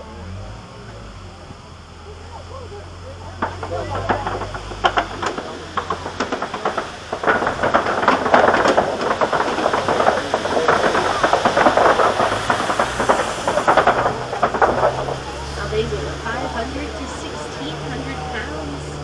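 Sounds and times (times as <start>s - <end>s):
truck rattling and clattering: 1.8s - 19.0s.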